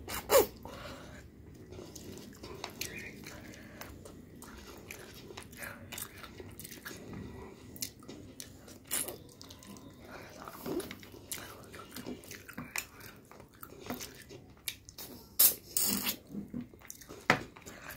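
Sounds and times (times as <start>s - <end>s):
wet chewing: 0.8s - 17.9s.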